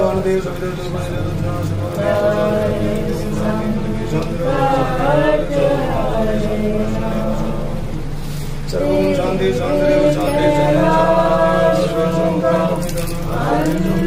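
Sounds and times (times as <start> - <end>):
voices chanting a mantra: 0.0 - 14.0.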